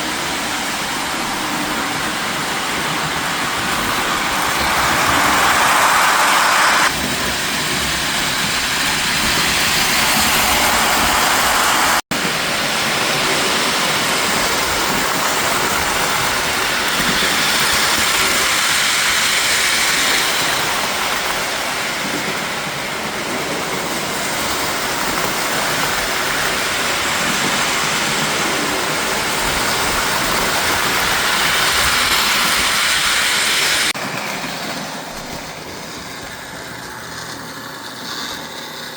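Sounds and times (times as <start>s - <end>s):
toy train rolling on track: 0.0s - 38.9s.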